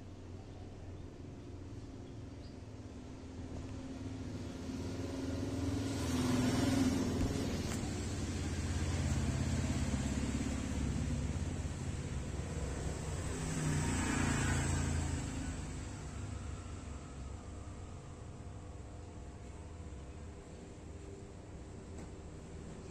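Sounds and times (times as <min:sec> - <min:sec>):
vehicle engine rumble: 0:00.0 - 0:22.9.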